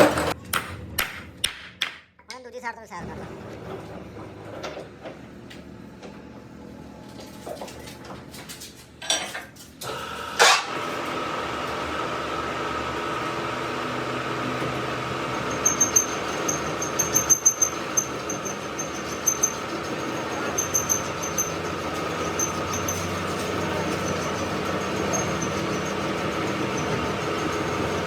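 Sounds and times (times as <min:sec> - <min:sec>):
workshop machine running: 0:00.0 - 0:01.4, 0:02.8 - 0:28.0.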